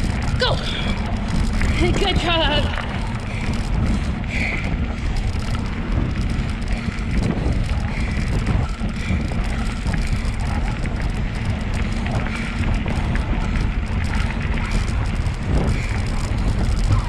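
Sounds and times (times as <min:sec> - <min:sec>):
bicycle rolling on dirt trail: 0:00.0 - 0:17.0
wind buffeting microphone: 0:00.0 - 0:17.0.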